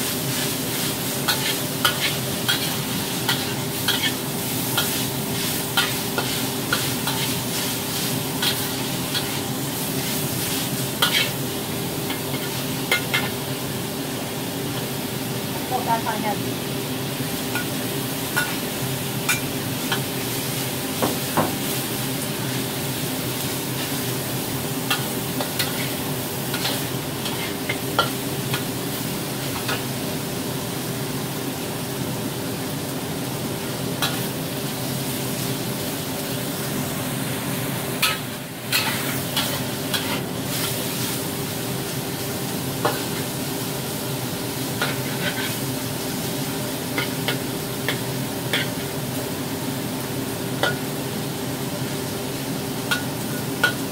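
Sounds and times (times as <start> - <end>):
food sizzling in a wok: 0.0 - 53.9.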